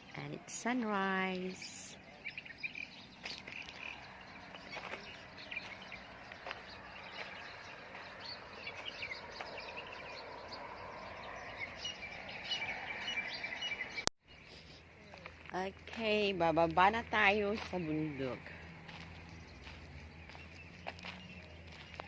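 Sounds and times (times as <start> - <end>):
birds chirping: 0.0 - 22.0
faint outdoor background noise: 0.0 - 22.0.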